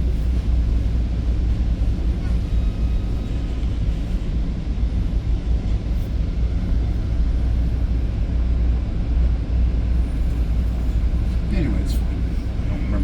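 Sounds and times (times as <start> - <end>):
train rumbling inside carriage: 0.0 - 13.0.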